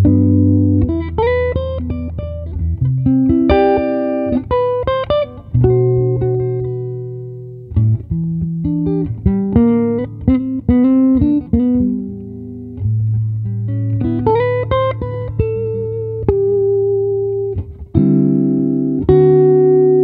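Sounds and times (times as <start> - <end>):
fingerstyle guitar: 0.0 - 20.0.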